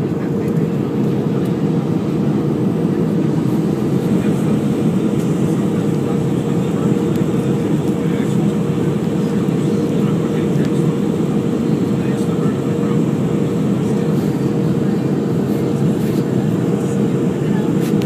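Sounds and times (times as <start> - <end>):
airplane cabin noise: 0.0 - 18.0
steady hum: 0.0 - 18.0.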